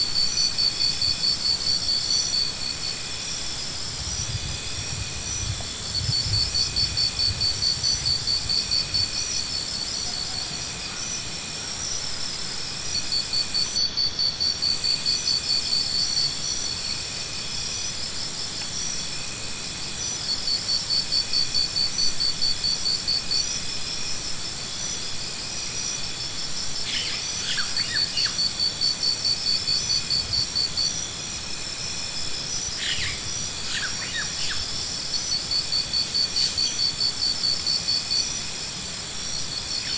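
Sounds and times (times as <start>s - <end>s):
high-pitched insect hum: 0.0s - 39.9s
insects trilling: 0.0s - 39.9s.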